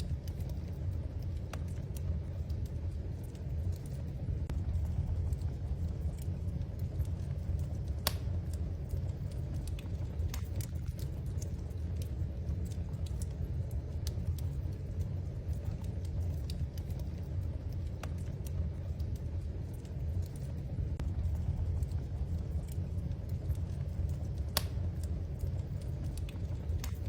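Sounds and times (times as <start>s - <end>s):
low rumble: 0.0s - 27.0s
wood fire crackling: 0.0s - 27.0s.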